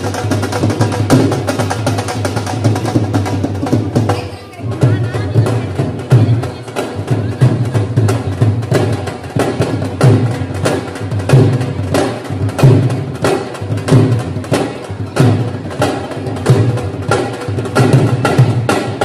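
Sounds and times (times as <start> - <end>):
dhol drum fast rhythm: 0.0 - 19.0.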